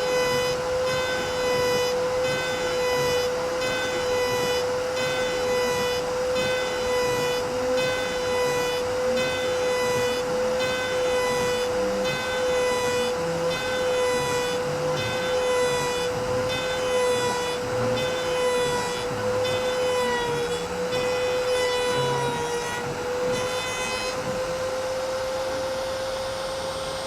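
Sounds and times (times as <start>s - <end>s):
cnc machine whine: 0.0s - 27.0s.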